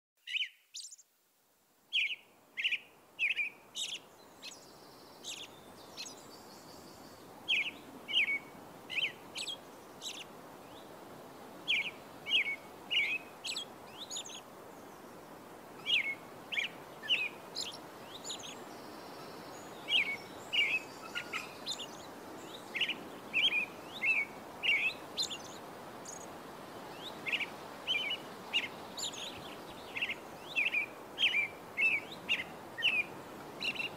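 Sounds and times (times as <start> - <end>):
small birds chirping: 0.2 - 1.2, 1.9 - 33.9
steady background hiss: 0.2 - 33.9.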